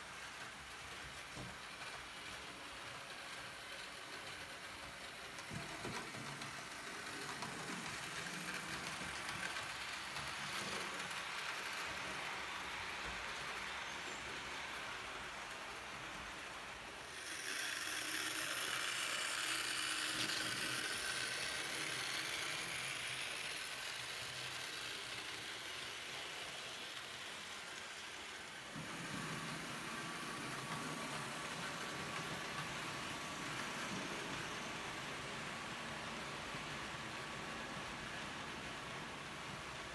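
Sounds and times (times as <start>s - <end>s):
model train wheels rolling: 0.0s - 39.9s.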